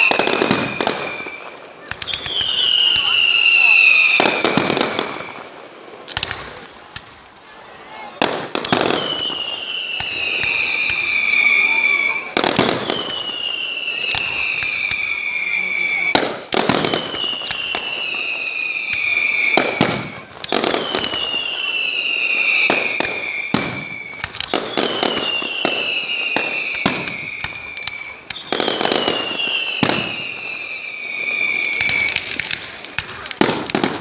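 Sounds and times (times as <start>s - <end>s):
descending firework whistles: 0.0s - 34.0s
firework bangs and crackling: 0.0s - 34.0s.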